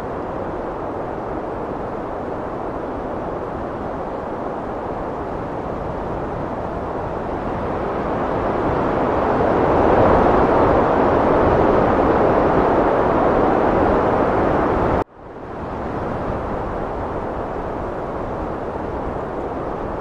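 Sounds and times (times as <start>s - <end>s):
heavy wind blowing: 0.0s - 20.0s.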